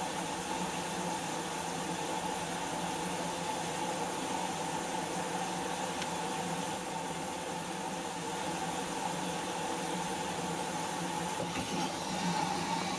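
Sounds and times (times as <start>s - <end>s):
low mechanical hum: 0.0s - 12.9s
washing machine water rushing: 0.0s - 12.9s.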